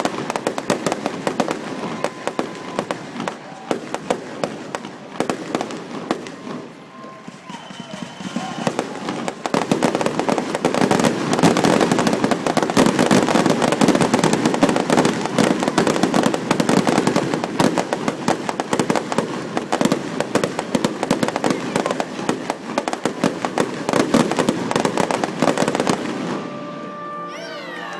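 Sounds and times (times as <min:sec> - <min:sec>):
fireworks bangs and crackling: 0:00.0 - 0:27.1.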